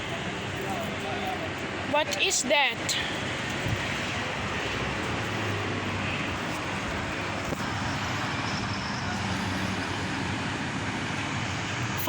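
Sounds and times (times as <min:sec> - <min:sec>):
traffic rushing hiss: 0:00.0 - 0:12.0.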